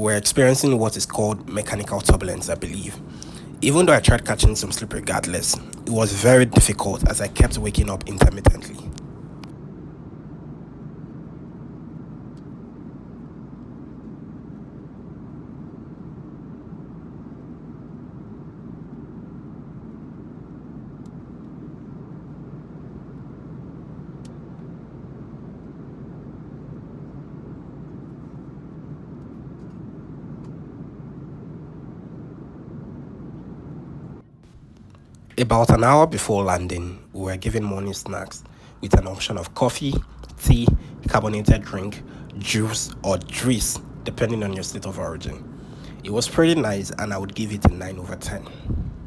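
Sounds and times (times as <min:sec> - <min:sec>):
airliner cabin hum: 0:00.0 - 0:49.0.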